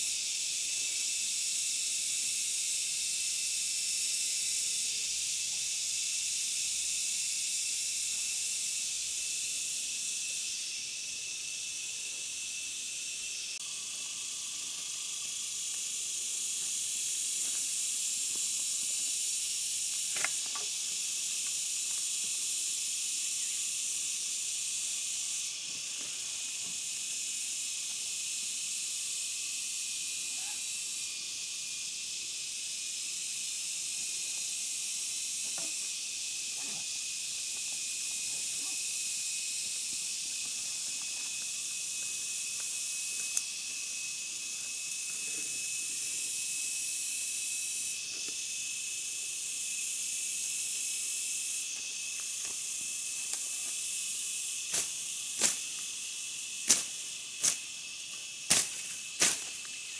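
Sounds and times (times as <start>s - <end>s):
insects chorus shrill hiss: 0.0s - 59.9s.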